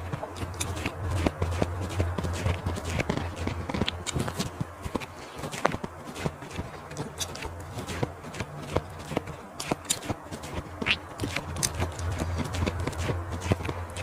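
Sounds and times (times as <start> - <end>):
low hum: 0.0 - 14.0
person chewing food: 0.0 - 14.0.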